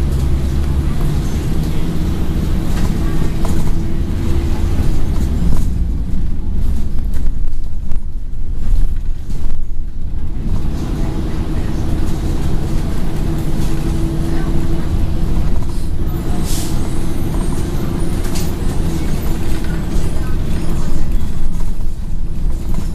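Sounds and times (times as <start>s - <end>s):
bus diesel engine running: 0.0s - 22.9s
road noise: 0.0s - 22.9s.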